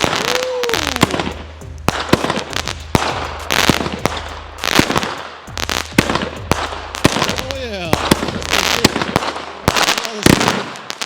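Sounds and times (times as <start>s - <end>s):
fireworks banging and crackling: 0.0s - 11.0s
fireworks hissing: 0.0s - 11.0s.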